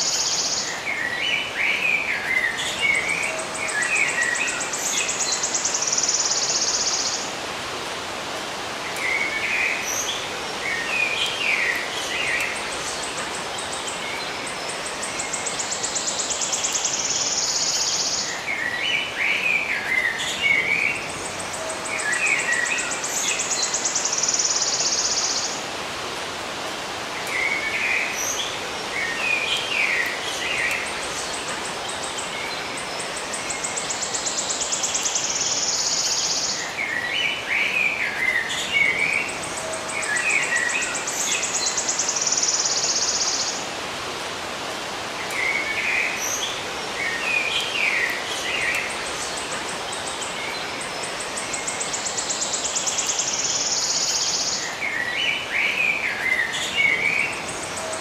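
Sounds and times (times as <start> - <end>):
small birds chirping: 0.0 - 7.5, 8.8 - 25.7, 27.2 - 44.0, 44.8 - 58.0
steady background hiss: 0.0 - 58.0.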